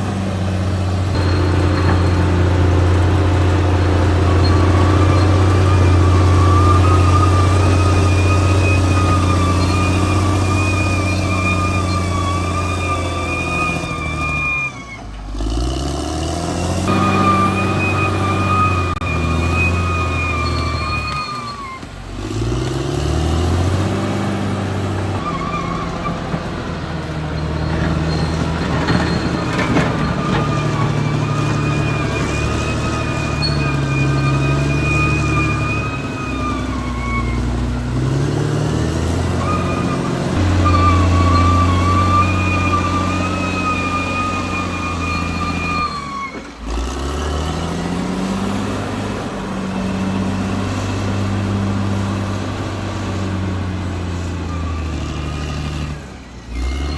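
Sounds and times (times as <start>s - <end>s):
bulldozer diesel engine under load: 0.0s - 56.9s.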